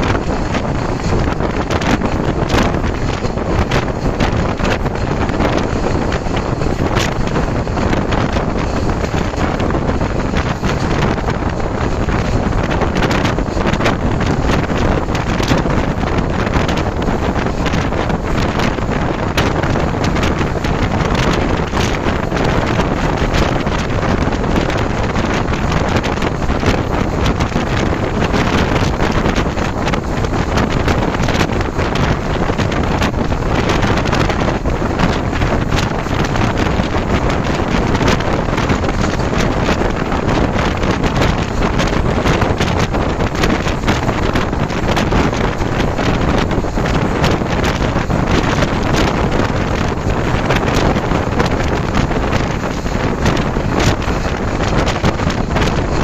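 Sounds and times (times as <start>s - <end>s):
train rumbling: 0.0s - 56.0s
wind buffeting microphone: 0.0s - 56.0s.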